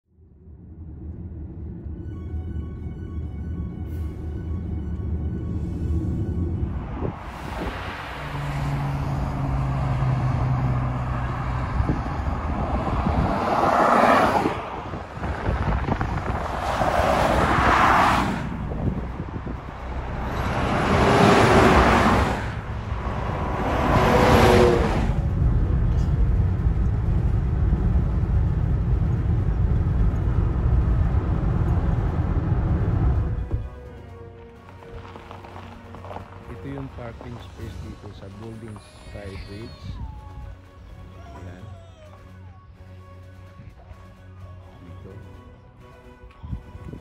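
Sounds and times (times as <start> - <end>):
low road rumble: 0.0 - 47.0
vehicles passing: 0.2 - 47.0.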